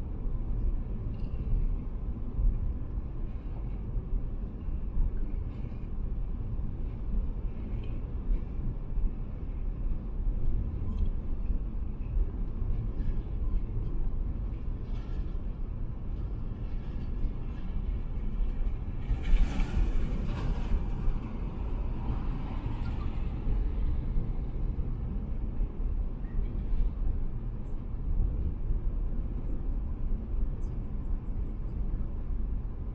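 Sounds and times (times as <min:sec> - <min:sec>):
tyres and engine rumble: 0:00.0 - 0:32.9.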